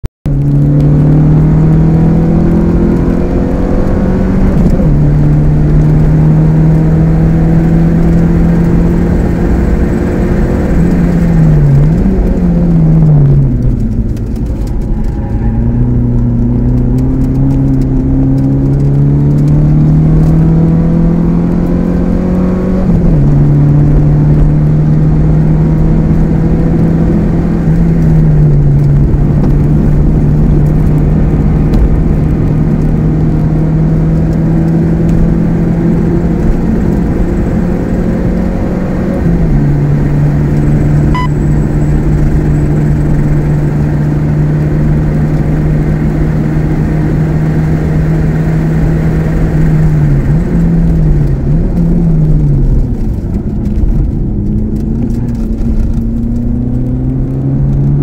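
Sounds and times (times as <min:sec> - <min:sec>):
car engine pulling hard: 0:00.3 - 0:58.0.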